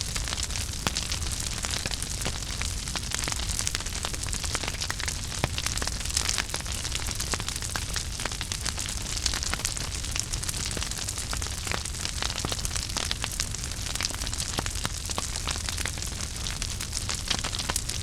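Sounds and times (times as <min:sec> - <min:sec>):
fire crackling and popping: 0:00.0 - 0:18.0
fire hissing and rumbling: 0:00.0 - 0:18.0.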